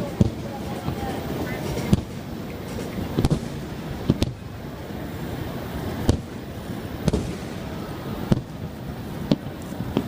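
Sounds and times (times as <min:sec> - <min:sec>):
firework shells bursting: 0:00.0 - 0:10.0
low rumble of fireworks: 0:00.0 - 0:10.0.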